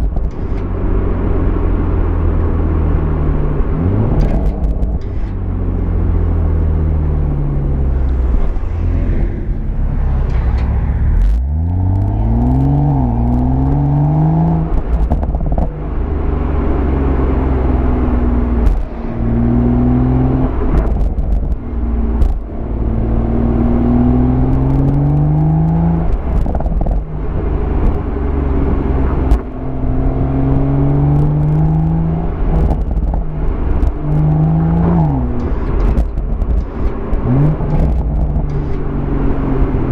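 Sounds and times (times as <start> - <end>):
car engine accelerating: 0.0 - 39.9
exhaust low rumble: 0.0 - 39.9.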